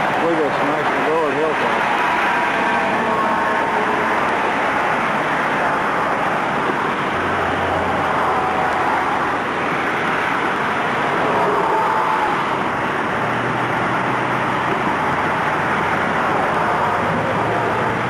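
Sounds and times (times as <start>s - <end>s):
car engine hum: 0.0s - 18.0s
car road noise hiss: 0.0s - 18.0s.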